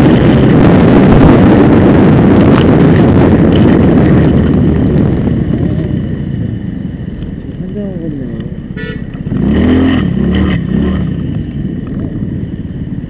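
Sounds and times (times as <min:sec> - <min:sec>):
road noise from moving vehicle: 0:00.0 - 0:13.0
wind rumble on microphone: 0:00.0 - 0:13.0.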